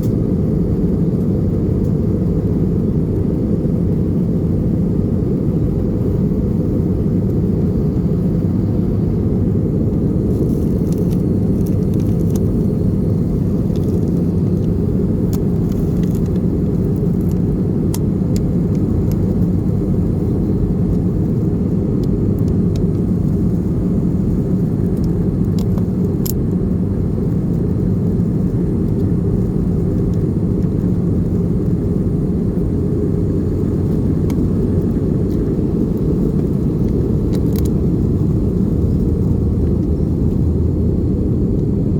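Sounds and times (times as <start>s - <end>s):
airplane cabin engine roar: 0.0s - 41.9s.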